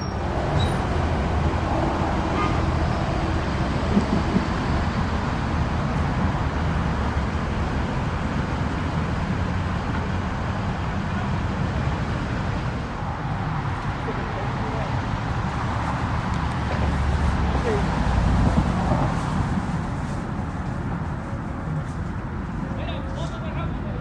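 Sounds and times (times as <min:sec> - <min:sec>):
engines rumbling: 0:00.0 - 0:24.0.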